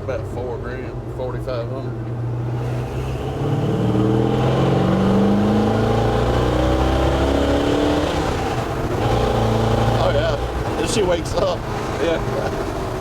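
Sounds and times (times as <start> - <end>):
v-eight engine at full throttle: 0.0 - 13.0.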